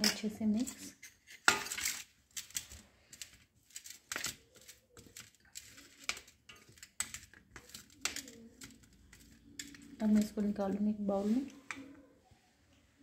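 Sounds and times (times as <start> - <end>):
spatula tapping and scraping metal: 0.0 - 12.0.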